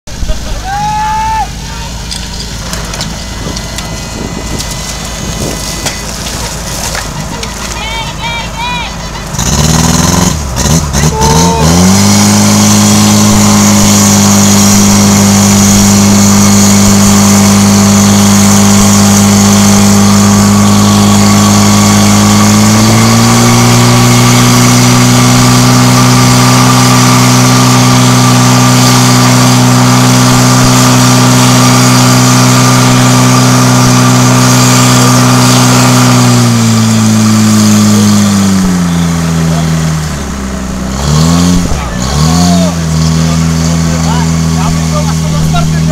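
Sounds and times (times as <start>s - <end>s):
pump engine revving: 0.1s - 45.9s.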